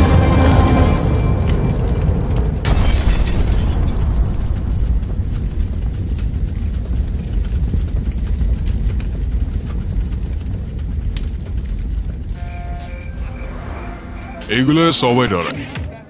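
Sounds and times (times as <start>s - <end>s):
deep low rumble: 0.0s - 14.5s
faint crackles: 0.0s - 14.9s.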